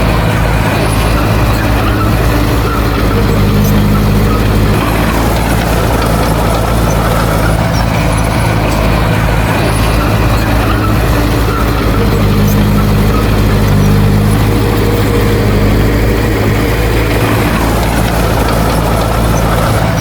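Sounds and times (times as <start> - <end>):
heavy diesel engine running: 0.0 - 20.0
higher engine note: 0.0 - 20.0.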